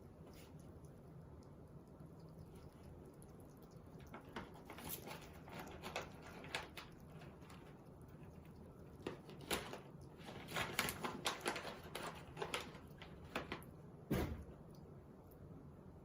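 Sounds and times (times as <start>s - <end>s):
hedgehog crunching dry food: 0.0s - 13.8s.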